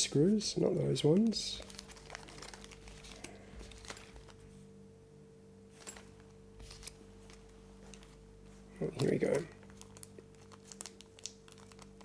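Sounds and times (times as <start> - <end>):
faint steady hum: 0.0 - 12.0
plastic bags rustling: 0.7 - 4.6, 5.7 - 12.0.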